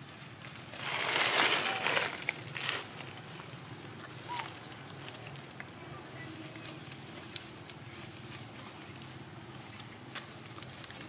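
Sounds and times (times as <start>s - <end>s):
dry leaves crackling: 0.0s - 11.0s
low background hum: 0.0s - 11.0s.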